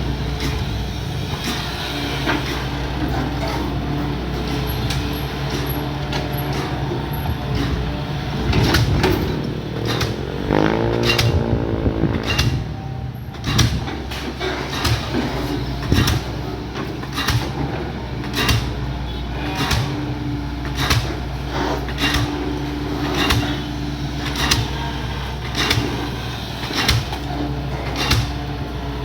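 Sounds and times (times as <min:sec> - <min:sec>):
excavator diesel engine running: 0:00.0 - 0:29.0
metal clanks and knocks: 0:02.3 - 0:28.6.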